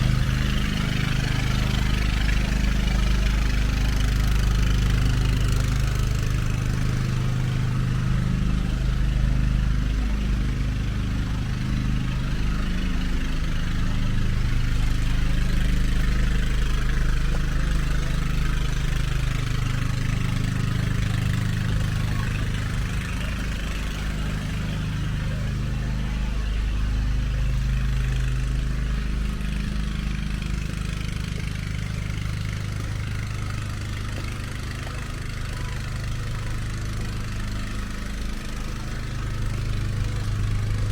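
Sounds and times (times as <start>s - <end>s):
vehicle engines running: 0.0s - 40.9s.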